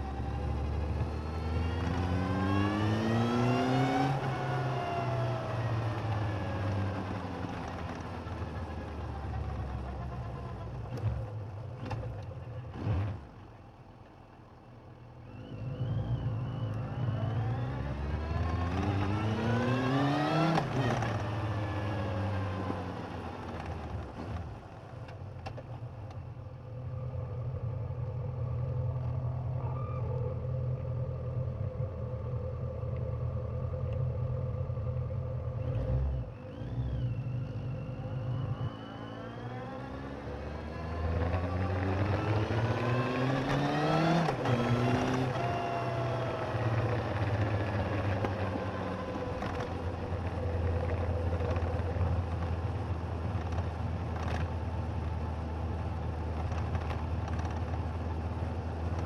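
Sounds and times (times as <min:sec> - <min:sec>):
motorcycle engine revving: 0:00.0 - 0:13.4, 0:15.4 - 0:24.5, 0:33.5 - 0:59.0.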